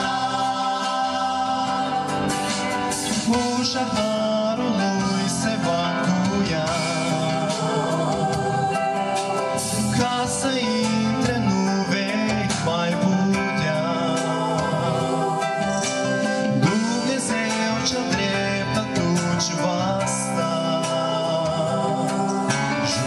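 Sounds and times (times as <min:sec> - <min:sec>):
group singing a hymn: 0:00.0 - 0:23.0
instrumental accompaniment: 0:00.0 - 0:23.0.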